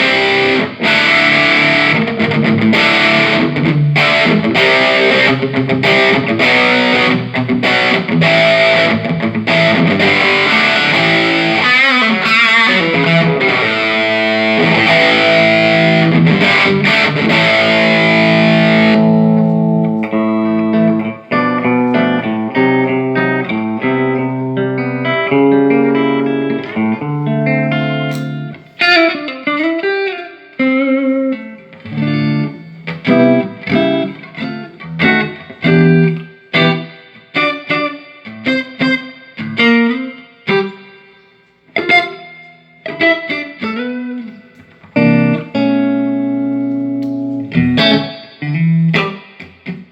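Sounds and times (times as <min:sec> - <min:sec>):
electric guitar playing: 0:00.0 - 0:49.9.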